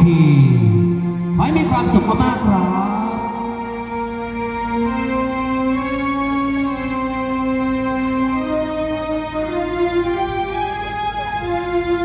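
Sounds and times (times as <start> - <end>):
live band music over speakers: 0.0 - 12.0.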